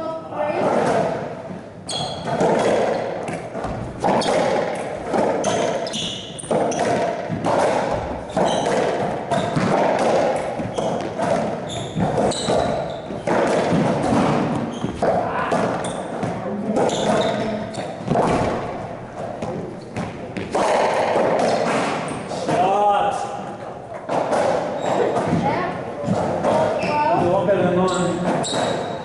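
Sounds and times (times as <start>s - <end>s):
racquetball hits echoing: 0.5s - 29.0s
shoes squeaking on floor: 1.8s - 22.7s, 23.5s - 29.0s.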